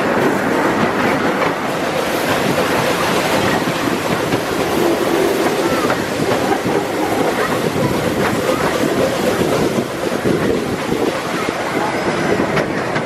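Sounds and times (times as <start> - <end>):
train wheels clattering on track: 0.0 - 13.0.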